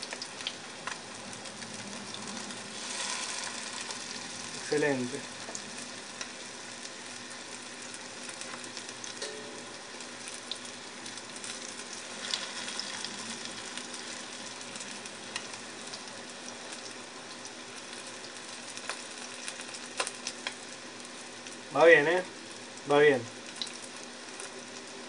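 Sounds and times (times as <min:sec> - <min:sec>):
fish fillets sizzling in oil: 0:00.0 - 0:25.0.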